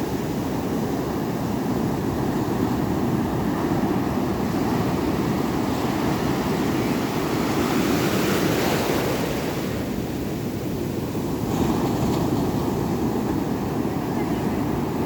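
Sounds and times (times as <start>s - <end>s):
ocean surf: 0.0s - 15.0s.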